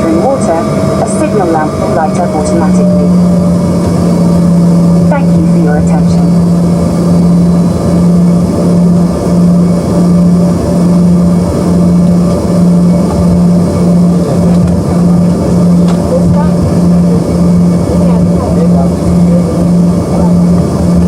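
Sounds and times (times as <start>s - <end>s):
jet cabin drone: 0.0s - 21.0s.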